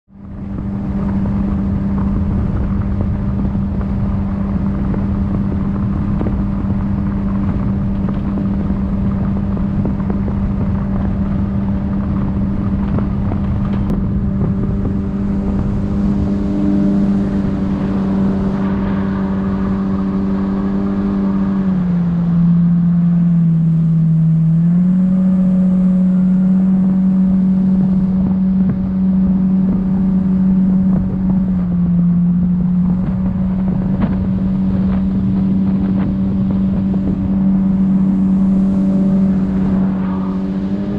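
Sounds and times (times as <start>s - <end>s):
boat outboard engine running: 0.1s - 40.9s.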